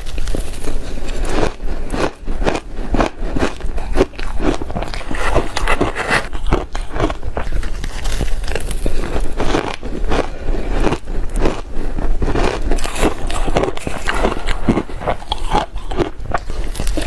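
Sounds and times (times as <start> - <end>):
ice being chewed: 0.0 - 17.0.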